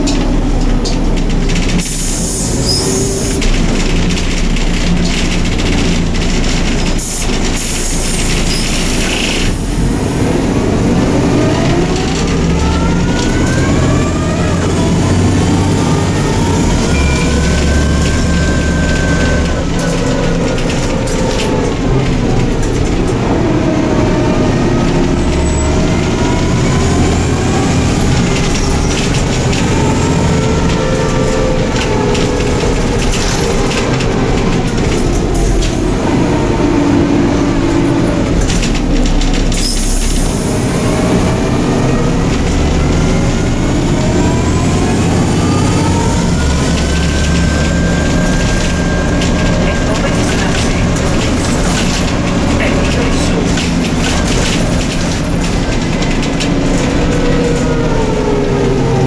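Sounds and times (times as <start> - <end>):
bus engine whine: 0.0 - 59.0
steady engine rumble: 0.0 - 59.0.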